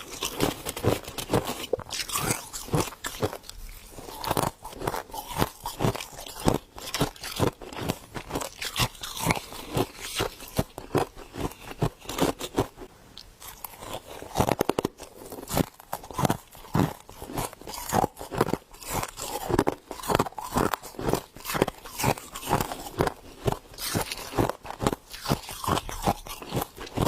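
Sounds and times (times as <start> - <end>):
crunching and chewing frost: 0.0 - 27.0.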